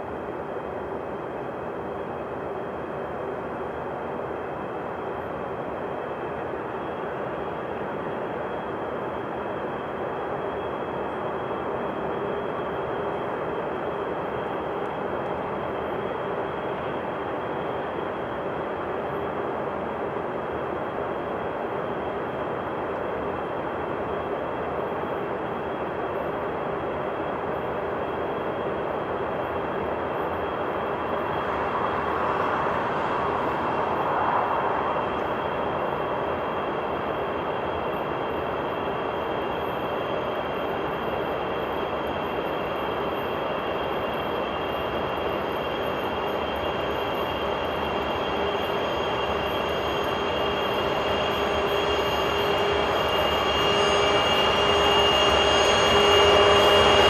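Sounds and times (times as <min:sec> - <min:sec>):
steady whine: 0:00.0 - 0:57.0
train wheels rumbling on rail: 0:00.0 - 0:57.0.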